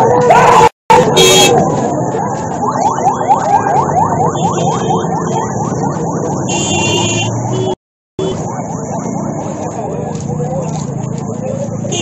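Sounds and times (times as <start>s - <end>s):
police siren yelping: 0.0s - 9.9s.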